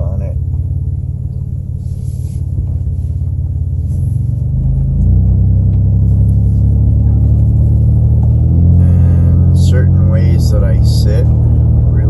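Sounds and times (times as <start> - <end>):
vehicle engine rumble from inside cab: 0.0 - 12.0.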